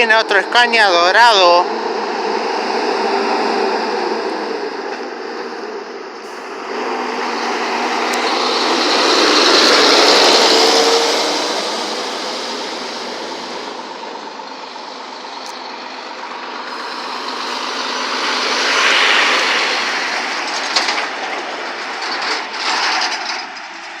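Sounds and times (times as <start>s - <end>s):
trucks driving past: 0.0s - 24.0s.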